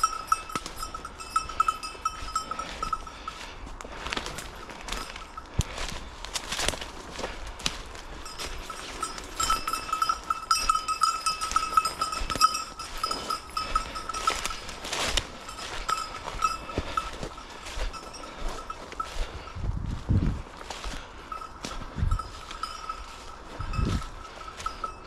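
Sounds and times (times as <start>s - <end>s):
dog bell jingling: 0.0s - 3.6s, 4.2s - 5.6s, 8.1s - 19.6s, 21.2s - 25.0s.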